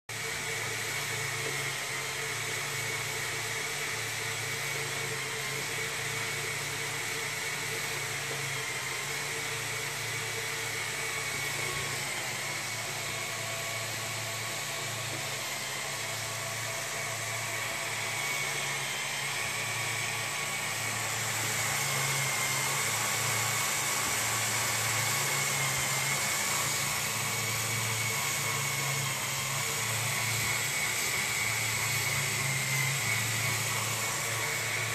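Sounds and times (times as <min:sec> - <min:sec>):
mechanical whirring with motor whine: 0:00.1 - 0:34.9.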